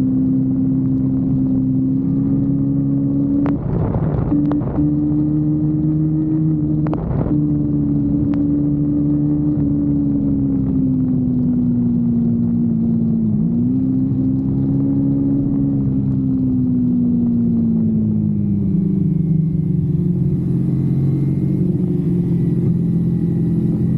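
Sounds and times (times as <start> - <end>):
motorcycle engine at high revs: 0.0 - 23.9.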